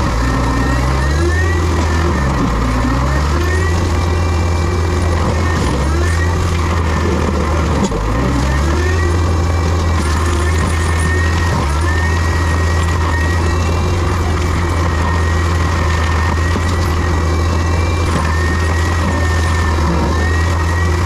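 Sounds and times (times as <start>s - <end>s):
diesel engine drone: 0.0s - 21.0s.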